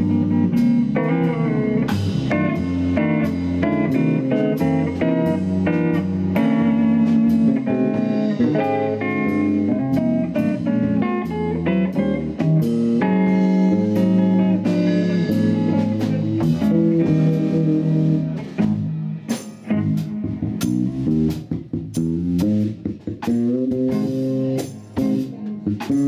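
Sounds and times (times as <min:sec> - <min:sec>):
bass guitar: 0:00.0 - 0:26.0
live blues band playing: 0:00.0 - 0:26.0
plucked guitar notes: 0:00.0 - 0:26.0
steady drum beat: 0:00.0 - 0:26.0.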